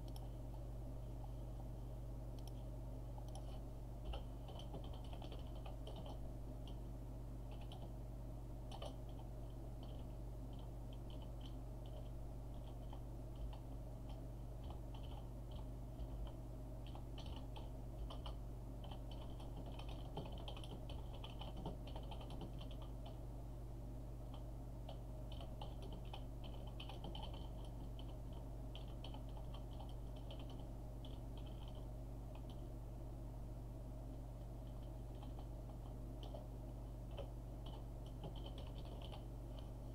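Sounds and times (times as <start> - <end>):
steady low hum: 0.0 - 39.9
keyboard typing: 2.4 - 6.8, 7.5 - 7.9, 8.7 - 23.2, 24.3 - 32.7, 34.6 - 39.9.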